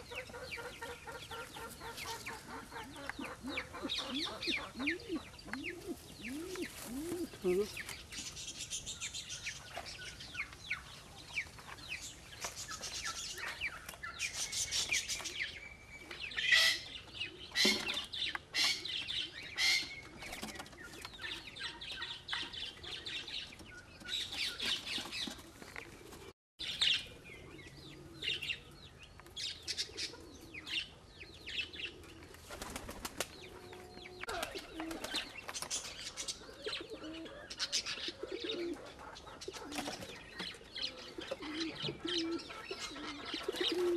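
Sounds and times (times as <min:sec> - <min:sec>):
low pigeon calls: 0:00.0 - 0:10.8, 0:16.3 - 0:43.9.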